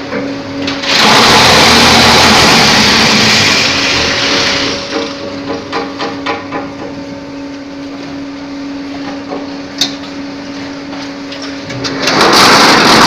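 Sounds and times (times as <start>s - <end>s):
loud noisy machine din: 0.0s - 13.0s.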